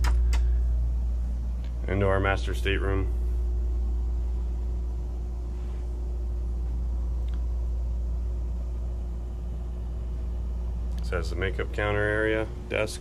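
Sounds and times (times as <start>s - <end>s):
faint constant tone: 0.0s - 13.0s
low mechanical hum: 0.0s - 13.0s.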